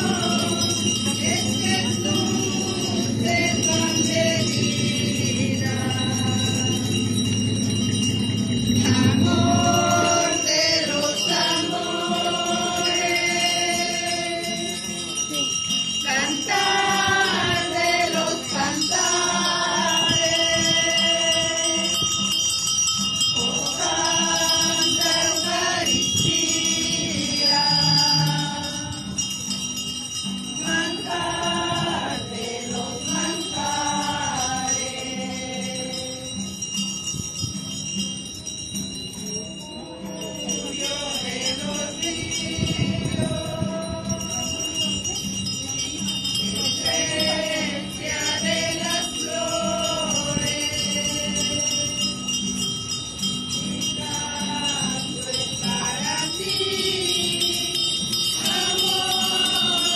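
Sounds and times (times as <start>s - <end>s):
group singing a hymn: 0.0s - 15.2s, 16.0s - 22.4s, 23.3s - 29.2s, 30.6s - 36.5s, 39.9s - 44.7s, 46.4s - 52.3s, 53.5s - 59.9s
acoustic guitars: 0.0s - 59.9s
steady high ringing: 0.0s - 59.9s.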